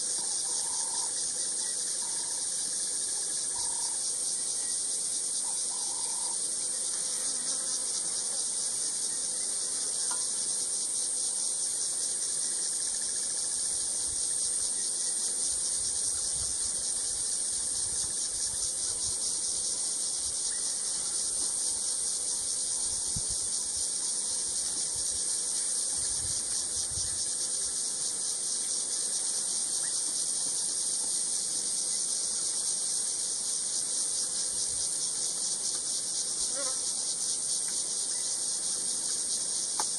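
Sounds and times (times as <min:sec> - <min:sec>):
insects buzzing trill: 0:00.0 - 0:39.9.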